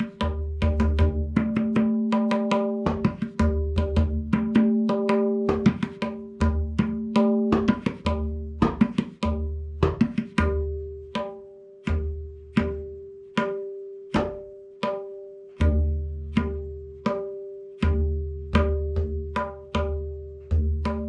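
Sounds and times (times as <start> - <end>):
ringing tabla strokes: 0.0 - 21.0.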